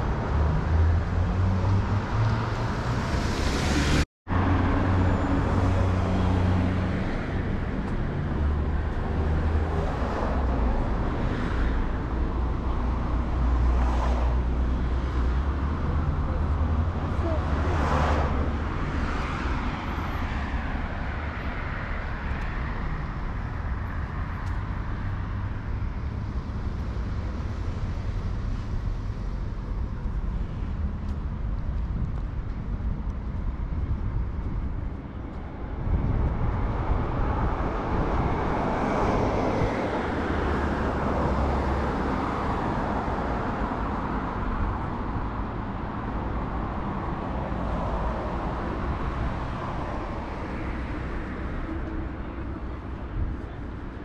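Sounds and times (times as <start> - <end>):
low traffic rumble: 0.0 - 54.0
vehicles passing: 0.0 - 54.0.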